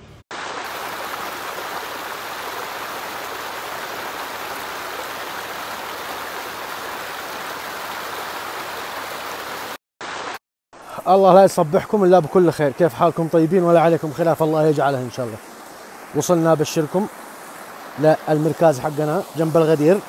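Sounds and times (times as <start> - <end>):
stream water rushing over stones: 0.3 - 20.0.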